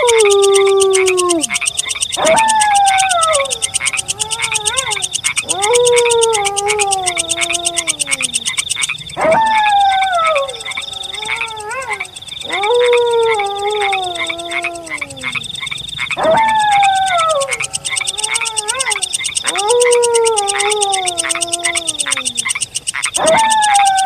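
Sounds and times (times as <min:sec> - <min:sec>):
wolf howling: 0:00.0 - 0:15.5, 0:16.2 - 0:22.5, 0:23.2 - 0:24.0
frogs croaking: 0:00.0 - 0:24.0
steady high trill: 0:00.0 - 0:24.0.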